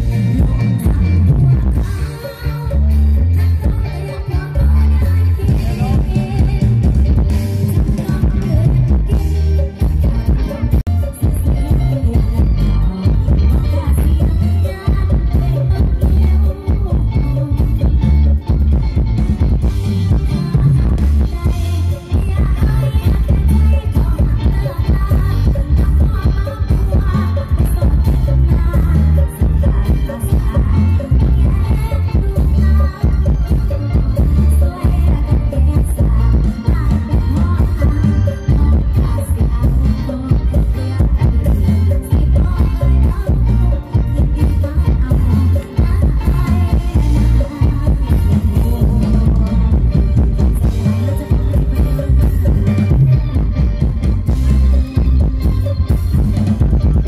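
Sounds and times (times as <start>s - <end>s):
loud band music with heavy bass: 0.0s - 57.0s
person singing: 0.0s - 57.0s.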